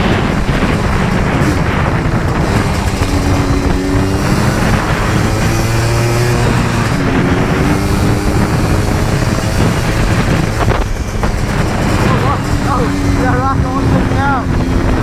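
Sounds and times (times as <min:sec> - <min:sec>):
atv engine running: 0:00.0 - 0:15.0
wind noise: 0:00.0 - 0:15.0.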